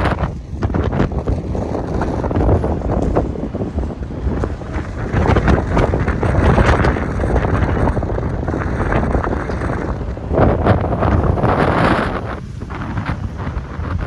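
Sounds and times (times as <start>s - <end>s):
wind gusting on microphone: 0.0s - 14.0s.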